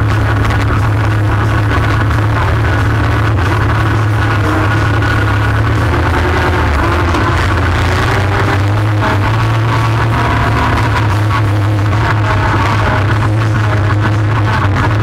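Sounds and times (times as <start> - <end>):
atv engine droning: 0.0 - 15.0.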